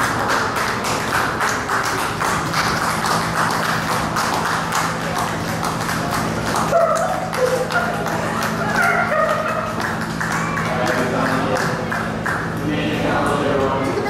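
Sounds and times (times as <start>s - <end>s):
many hands clapping: 0.0s - 12.7s
steady low hum: 0.0s - 14.0s.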